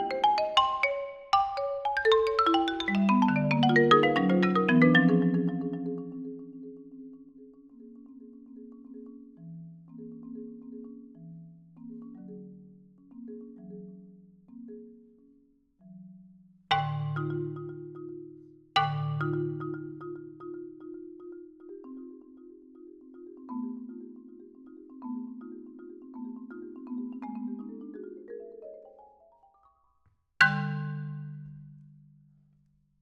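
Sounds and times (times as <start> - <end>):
solo marimba: 0.0 - 32.3.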